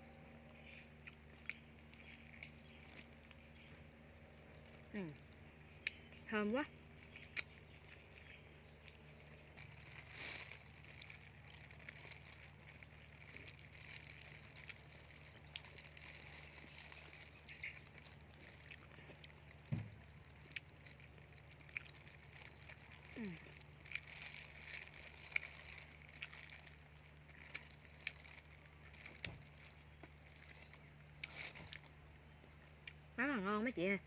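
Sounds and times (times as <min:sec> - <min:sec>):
faint background hum: 0:00.0 - 0:34.0.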